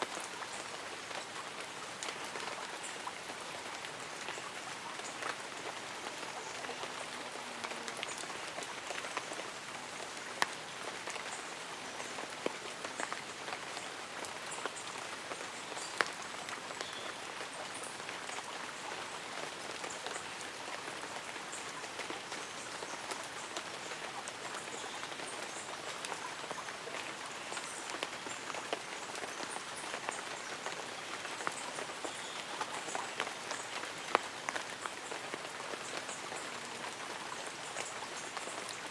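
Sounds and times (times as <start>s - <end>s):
light rain on leaves and umbrella: 0.0s - 38.9s.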